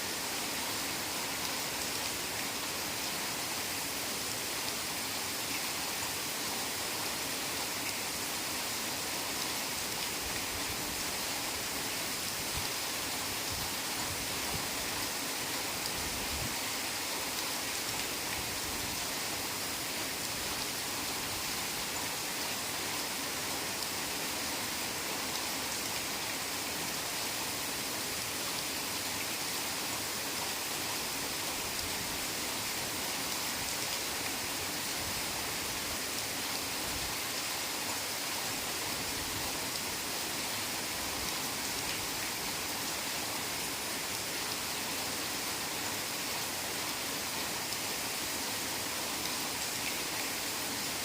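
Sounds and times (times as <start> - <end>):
heavy rain in a forest: 0.0 - 51.0.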